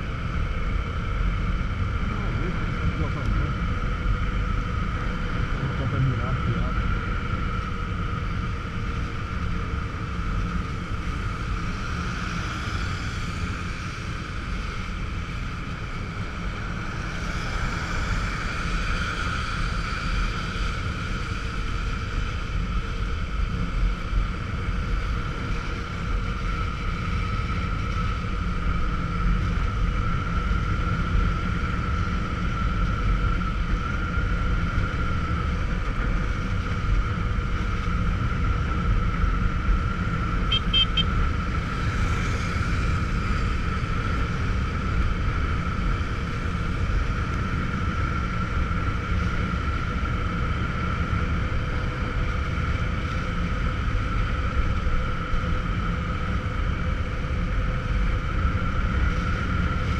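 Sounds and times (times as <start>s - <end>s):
motorcycle engine and wind rumble: 0.0s - 59.9s
steady high whine: 0.0s - 59.9s.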